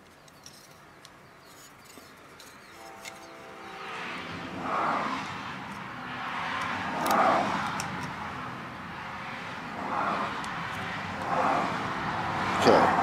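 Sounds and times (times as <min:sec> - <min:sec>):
passing road vehicles: 0:01.8 - 0:13.0.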